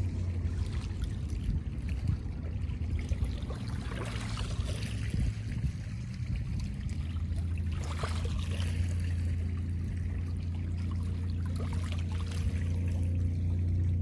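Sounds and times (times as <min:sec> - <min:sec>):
light splashes: 0:00.0 - 0:14.0
small waves lapping: 0:00.0 - 0:14.0
steady low rumble: 0:00.0 - 0:14.0.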